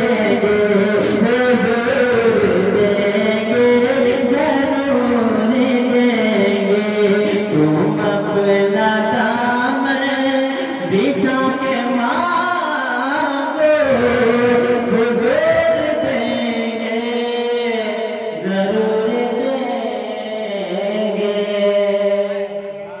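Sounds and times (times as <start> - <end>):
man singing unaccompanied: 0.0 - 23.0.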